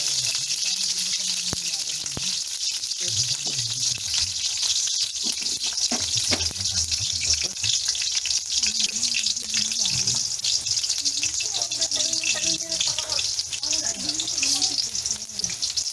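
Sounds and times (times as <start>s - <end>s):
potatoes sizzling in hot oil: 0.0s - 15.9s.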